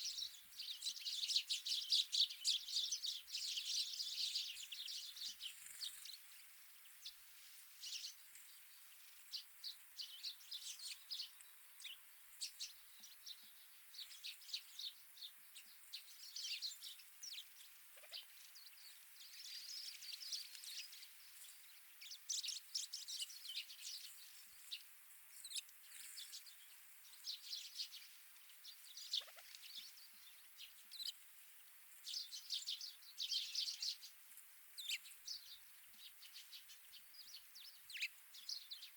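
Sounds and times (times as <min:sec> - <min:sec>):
faint steady hiss: 0:00.0 - 0:38.9
wild birds chirping: 0:00.0 - 0:38.9.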